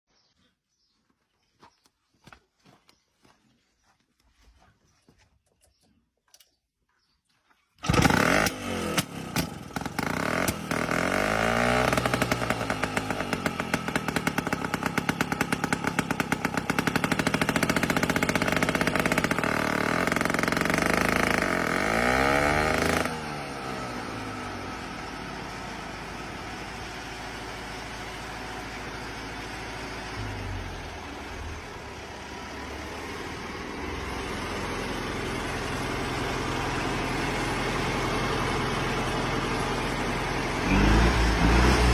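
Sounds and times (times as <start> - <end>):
tractor engine running rattling: 7.8 - 41.9.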